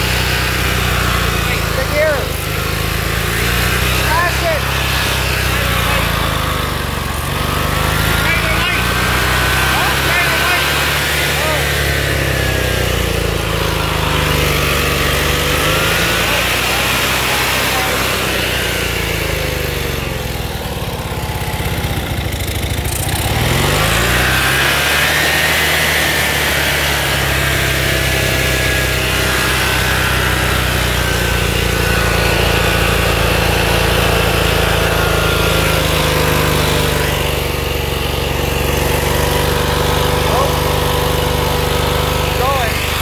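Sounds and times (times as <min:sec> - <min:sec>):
small engine revving: 0:00.0 - 0:43.0.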